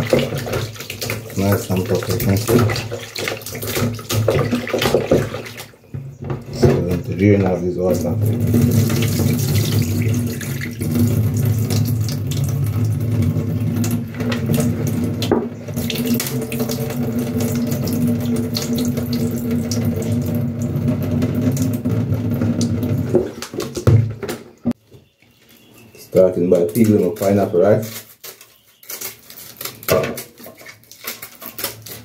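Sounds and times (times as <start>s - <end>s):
water pouring into metal sink: 0.0s - 5.7s, 6.6s - 24.2s, 26.1s - 27.8s, 29.8s - 32.0s.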